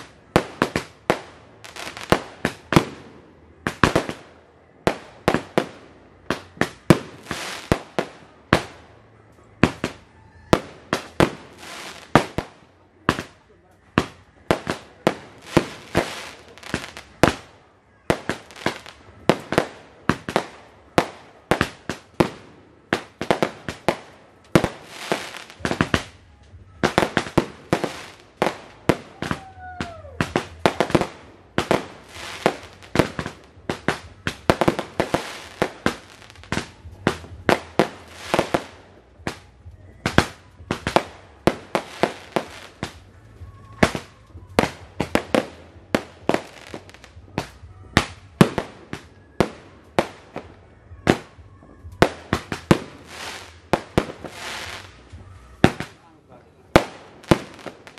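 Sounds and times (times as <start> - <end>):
fireworks bangs: 0.0 - 57.9.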